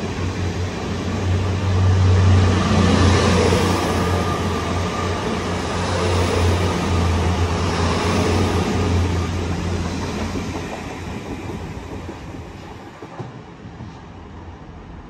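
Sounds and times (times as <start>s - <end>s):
wheels rumbling on rails: 0.0s - 14.8s
train engine hum: 0.0s - 15.0s.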